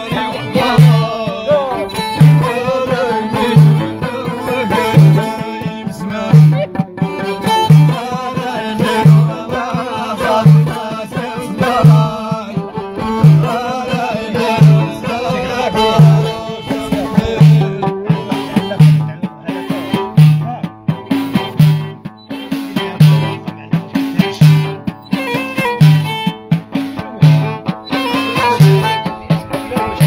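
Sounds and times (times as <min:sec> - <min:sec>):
frame drum strokes: 0:00.0 - 0:30.0
violin melody: 0:00.0 - 0:30.0.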